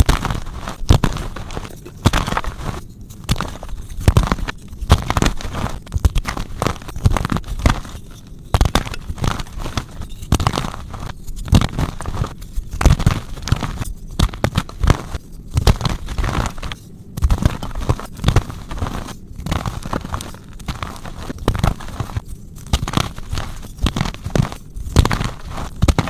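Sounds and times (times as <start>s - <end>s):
chalk crunching: 0.0s - 26.0s.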